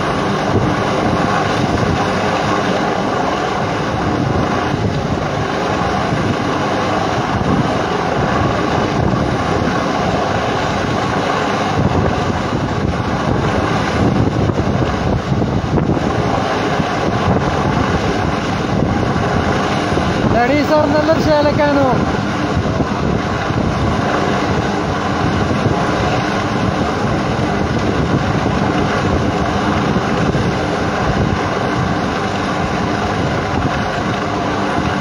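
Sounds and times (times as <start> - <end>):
helicopter rotor and engine: 0.0 - 35.0
wind on microphone: 0.0 - 35.0.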